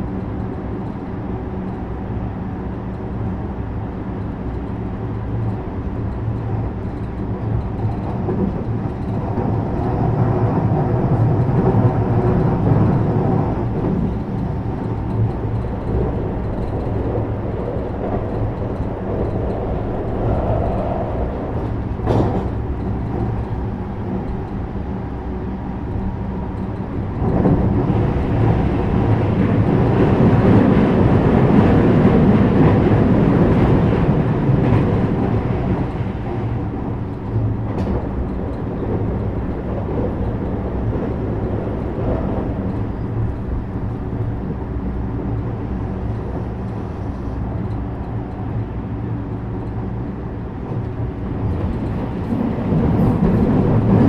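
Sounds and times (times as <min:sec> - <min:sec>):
train hum: 0:00.0 - 0:54.0
train wheels rumbling on rail: 0:00.0 - 0:54.0.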